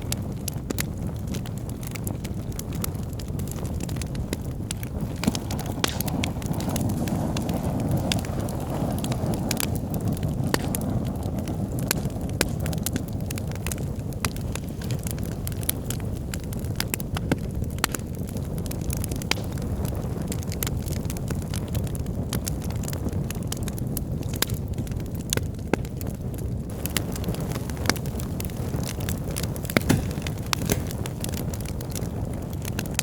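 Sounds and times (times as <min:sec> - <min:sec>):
fire roaring and crackling: 0:00.0 - 0:33.0.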